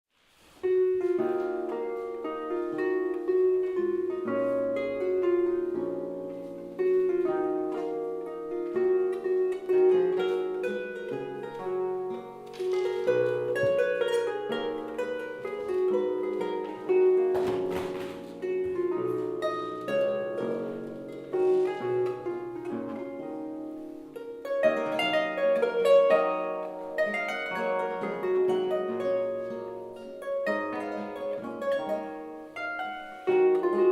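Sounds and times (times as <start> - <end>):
harp: 0.3 - 33.9
plucked strings: 0.5 - 33.9
held melody and bass notes: 0.7 - 33.9.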